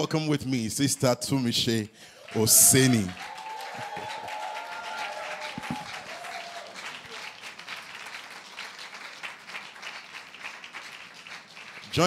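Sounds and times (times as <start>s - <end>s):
audience clapping: 2.2s - 12.0s.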